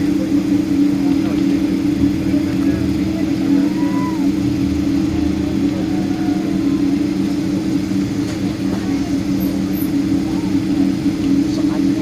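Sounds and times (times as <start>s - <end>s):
airliner engine drone: 0.0s - 12.0s.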